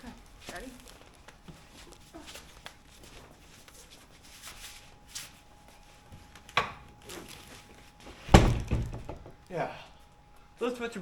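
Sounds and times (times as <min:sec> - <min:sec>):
faint shuffling and handling: 0:00.0 - 0:11.0.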